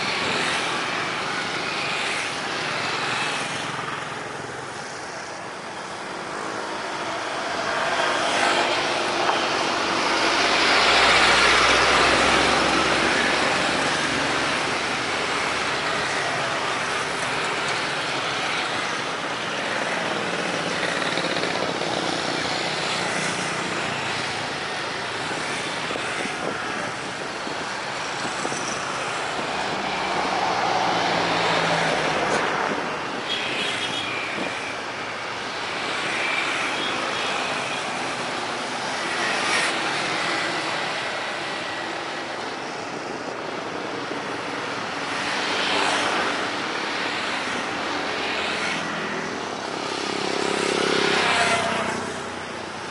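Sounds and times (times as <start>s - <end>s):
road traffic passing: 0.0s - 52.9s.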